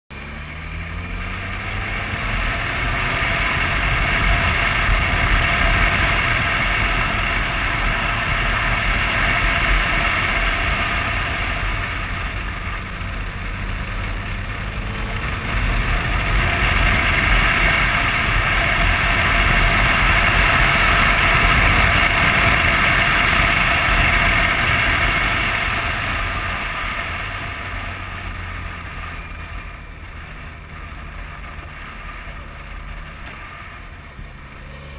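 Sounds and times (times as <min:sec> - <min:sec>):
motorcycle engine and tyres: 0:00.1 - 0:34.9
wind rushing over microphone: 0:00.6 - 0:34.8.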